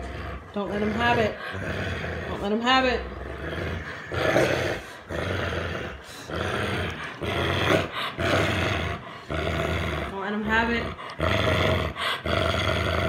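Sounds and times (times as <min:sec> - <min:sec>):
dog growling: 0:00.0 - 0:13.0.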